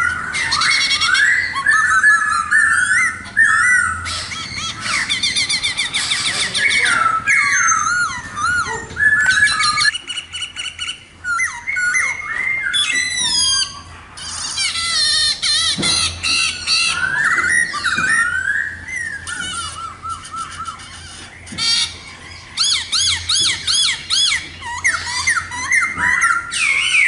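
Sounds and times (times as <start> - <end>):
bird singing: 0.0 - 27.0.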